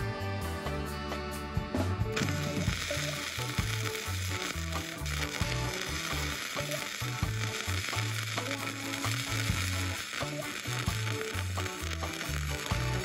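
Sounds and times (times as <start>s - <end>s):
spatter crackles: 2.1s - 13.0s
welding arc sizzling: 2.2s - 13.0s.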